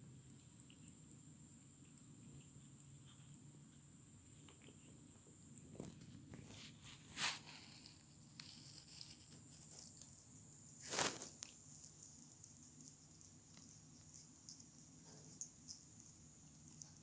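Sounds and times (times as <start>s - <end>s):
faint rustling and brushing: 1.8s - 17.0s.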